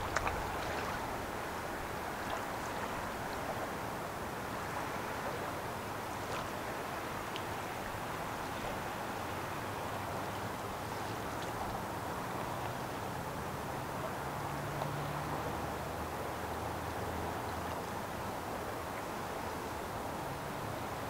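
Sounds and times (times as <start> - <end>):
flowing river water: 0.0 - 21.0
wind: 0.0 - 21.0.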